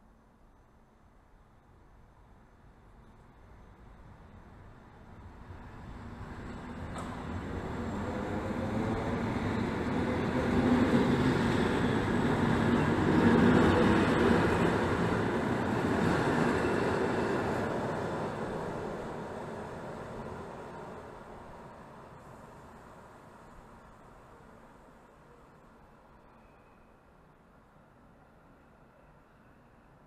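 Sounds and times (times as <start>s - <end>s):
electric train passing: 5.3s - 30.0s.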